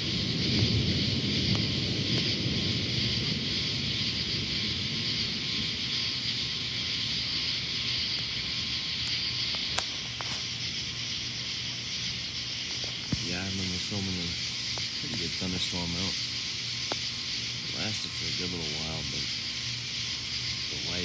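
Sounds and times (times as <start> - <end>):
distant thunder rumble: 0.0 - 21.0
heavy rain hissing: 0.0 - 21.0
pulsing high buzzing: 0.0 - 21.0.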